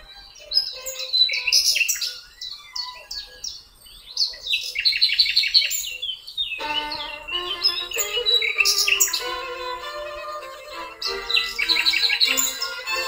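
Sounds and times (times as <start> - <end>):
songbirds chirping and singing: 0.0 - 13.0.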